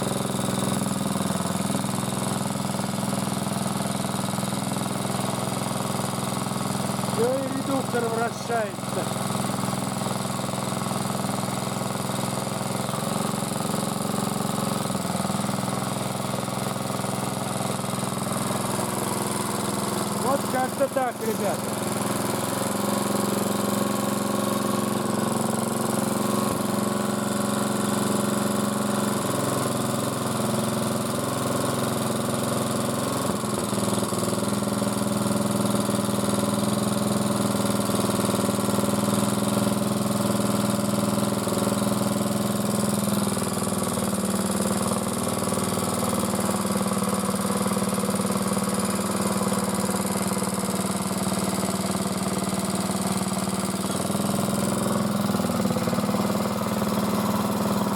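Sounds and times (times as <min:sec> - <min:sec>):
cultivator engine running: 0:00.0 - 0:57.9.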